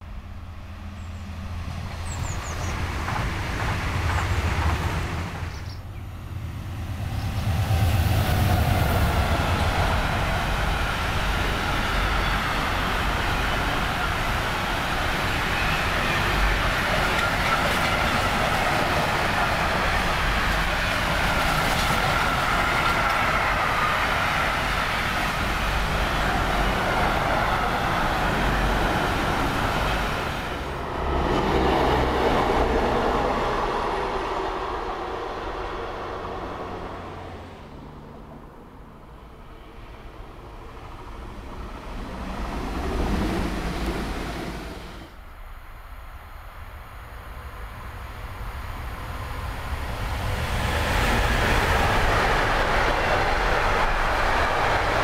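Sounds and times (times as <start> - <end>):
distant train rumble: 0.0 - 55.0
freight train wagons rumbling: 0.1 - 45.2, 47.3 - 55.0.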